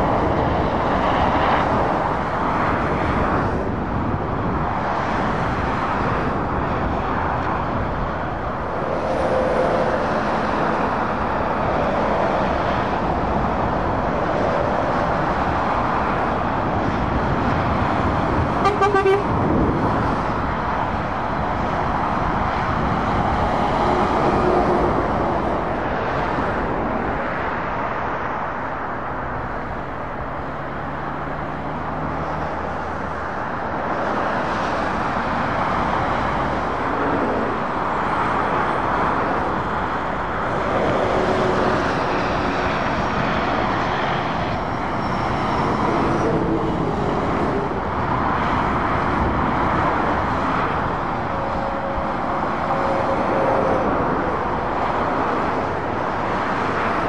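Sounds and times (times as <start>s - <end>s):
motorway traffic passing: 0.0s - 57.0s.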